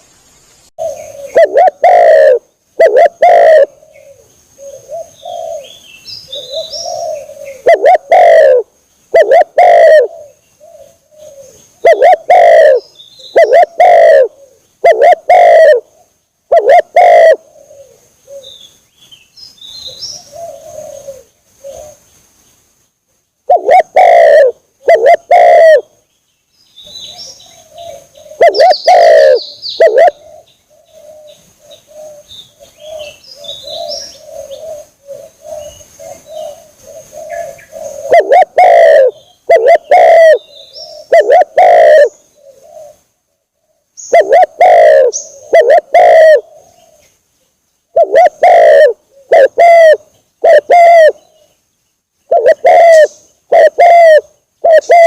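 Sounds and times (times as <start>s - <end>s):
dove cooing: 0.8s - 18.6s, 19.7s - 22.0s, 23.5s - 26.0s, 26.9s - 47.2s, 47.9s - 51.6s, 52.3s - 55.0s.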